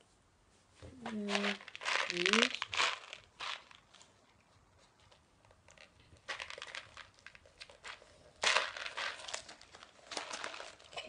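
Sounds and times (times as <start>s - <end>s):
candy wrapper crinkling: 1.1s - 4.4s, 5.0s - 11.0s.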